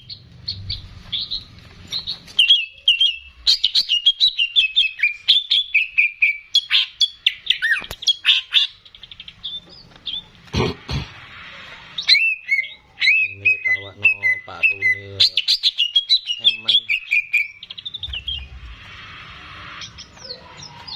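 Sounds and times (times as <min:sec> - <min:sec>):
bird singing whistled chirps: 0:00.0 - 0:10.3, 0:12.0 - 0:20.9.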